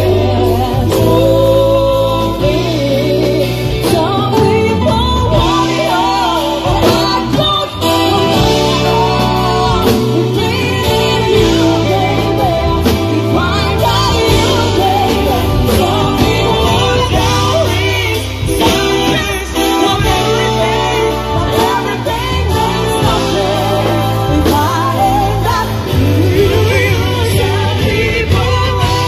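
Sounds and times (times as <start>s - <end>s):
bass line: 0.0s - 29.0s
drums: 0.0s - 29.0s
electric guitar: 0.0s - 29.0s
keyboard: 0.0s - 29.0s
people singing: 0.0s - 29.0s.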